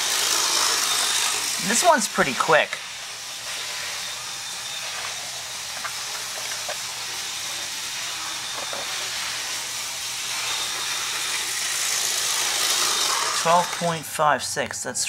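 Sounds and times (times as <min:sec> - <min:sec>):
model train motor whirring: 0:00.0 - 0:14.2.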